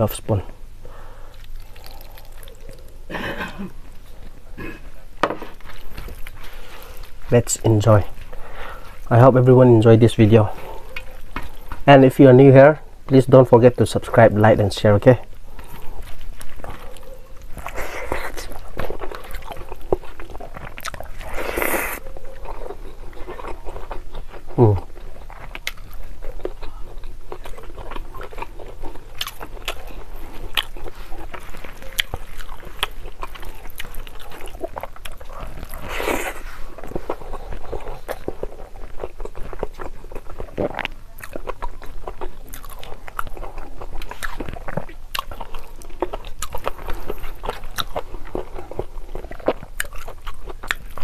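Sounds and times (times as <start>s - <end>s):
person chewing food: 0.8s - 11.9s, 15.2s - 51.0s.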